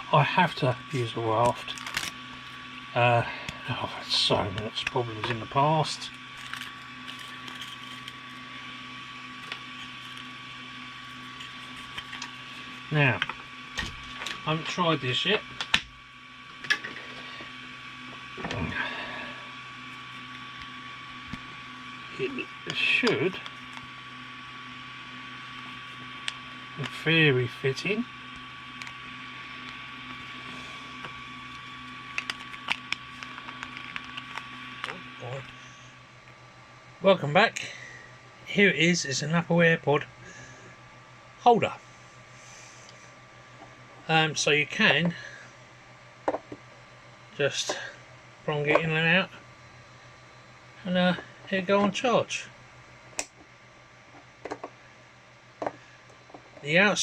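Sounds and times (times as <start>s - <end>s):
printer cooling fans humming: 0.0s - 57.0s.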